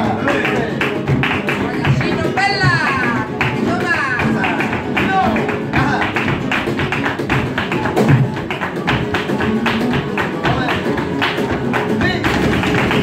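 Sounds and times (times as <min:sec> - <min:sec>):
dancing percussive strikes: 0:00.0 - 0:13.0
guitar: 0:00.0 - 0:13.0.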